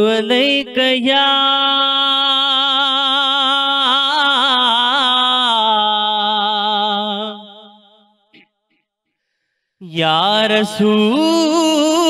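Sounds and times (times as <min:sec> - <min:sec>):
man singing unaccompanied: 0:00.0 - 0:07.8, 0:09.8 - 0:12.0.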